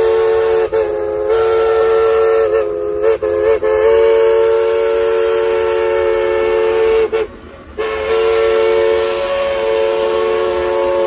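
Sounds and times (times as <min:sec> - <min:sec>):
steam whistle chord blast: 0:00.0 - 0:11.0.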